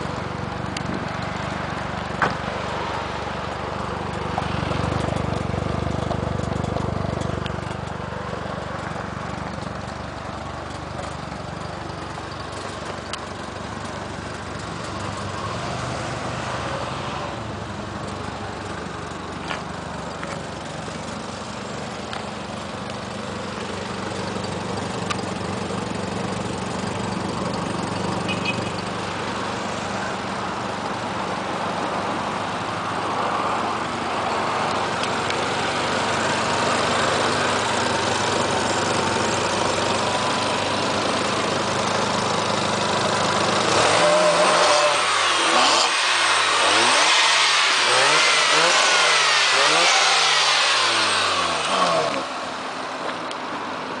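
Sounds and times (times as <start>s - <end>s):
rotary engine idling and revving: 0.0s - 54.0s.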